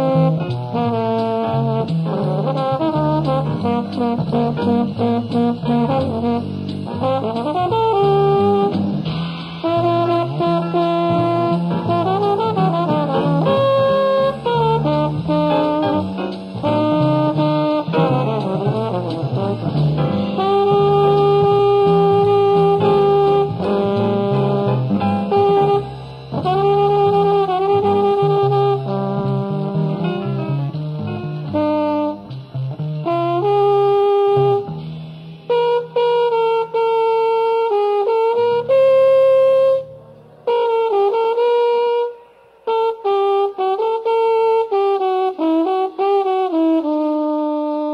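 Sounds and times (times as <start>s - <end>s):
jazz trombone melody: 0.0s - 47.9s
low accompaniment: 0.0s - 47.9s.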